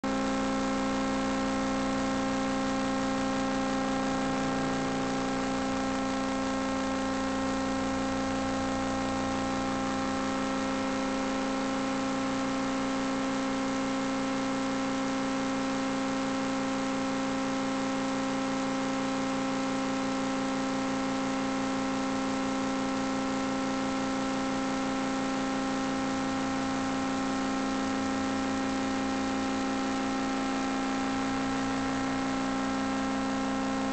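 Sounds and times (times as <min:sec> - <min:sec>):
electrical interference hum: 0:00.1 - 0:33.9.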